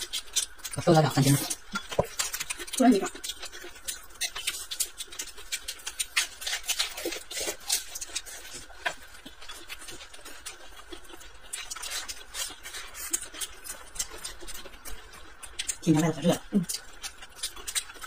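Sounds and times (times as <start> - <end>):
person chewing crisp food: 0.0 - 18.0.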